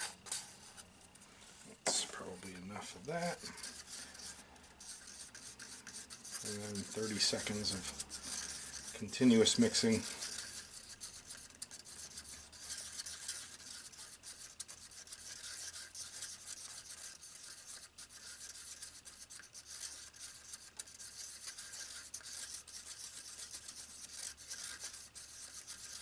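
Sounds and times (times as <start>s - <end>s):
stick scraping a mixing cup: 0.0s - 26.0s.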